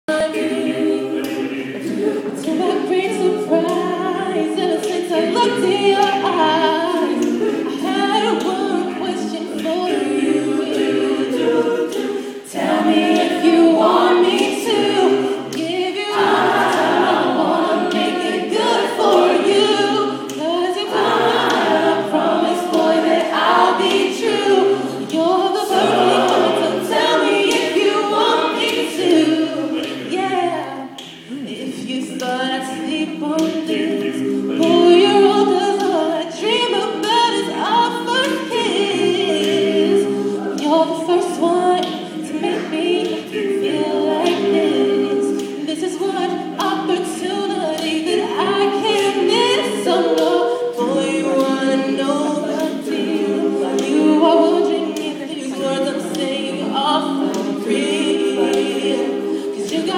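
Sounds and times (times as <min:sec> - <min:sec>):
a cappella group singing: 0:00.0 - 0:59.9
woman singing lead: 0:00.1 - 0:59.9.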